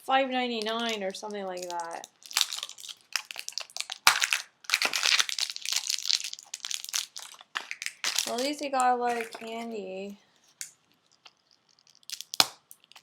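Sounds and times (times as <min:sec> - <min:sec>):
plastic wrappers crinkling: 0:00.0 - 0:13.0.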